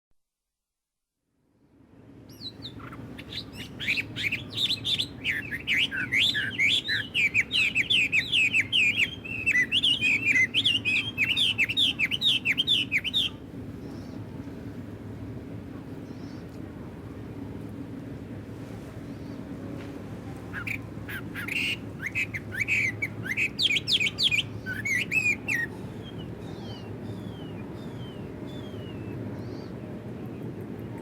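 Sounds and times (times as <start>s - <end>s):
outdoor ambience: 1.2s - 31.0s
songbird singing: 2.3s - 14.8s, 15.8s - 16.7s, 19.0s - 31.0s.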